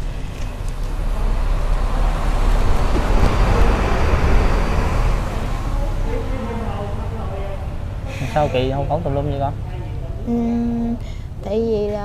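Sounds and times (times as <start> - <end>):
vehicle passing close by: 0.0 - 10.3.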